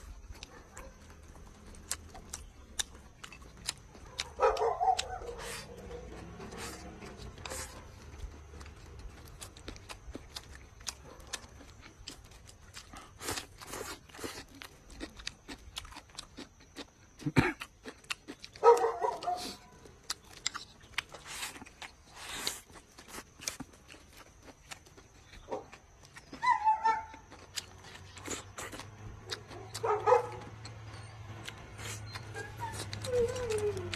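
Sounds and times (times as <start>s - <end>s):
chewing and slurping noodles: 0.0s - 33.9s.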